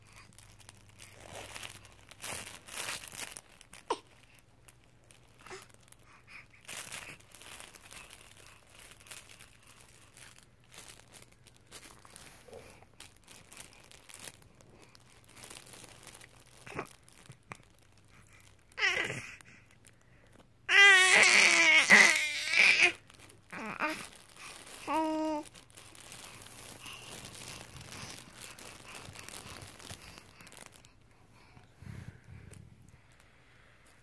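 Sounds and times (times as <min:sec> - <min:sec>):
crinkly cloth pages rustling: 0:00.0 - 0:34.0.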